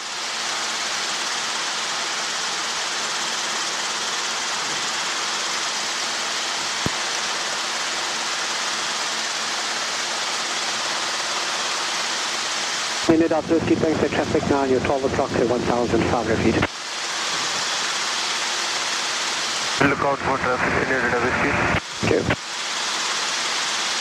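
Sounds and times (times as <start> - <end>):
helicopter noise through headset: 0.0 - 24.0.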